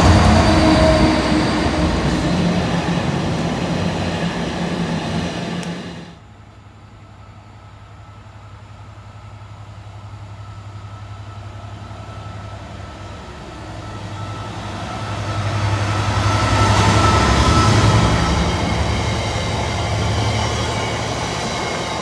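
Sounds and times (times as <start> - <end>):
diesel freight train engine drone: 0.0 - 22.0.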